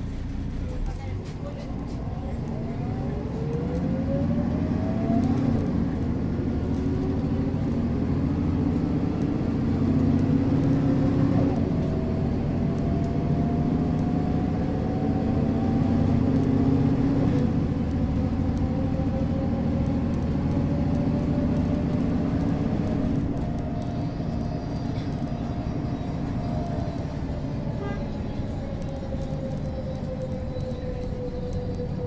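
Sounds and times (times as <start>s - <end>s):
diesel bus engine accelerating: 0.0s - 32.0s.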